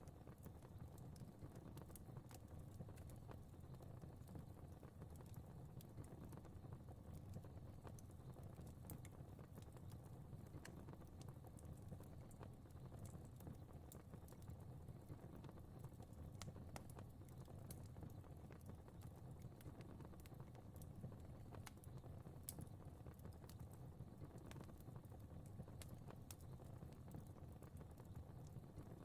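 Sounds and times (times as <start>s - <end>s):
fire crackling: 0.0s - 29.0s.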